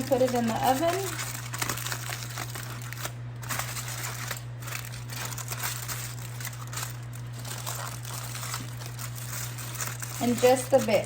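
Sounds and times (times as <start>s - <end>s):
aluminium foil crinkling: 0.0s - 11.0s
steady low hum: 0.0s - 11.0s.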